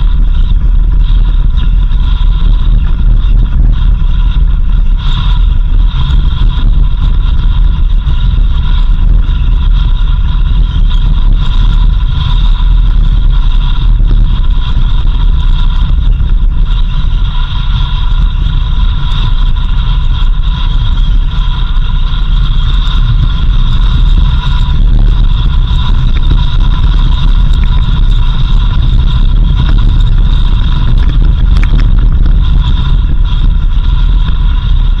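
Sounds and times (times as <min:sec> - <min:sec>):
faint high whine: 0:00.0 - 0:35.0
vehicle rumbling on dirt road: 0:00.0 - 0:35.0.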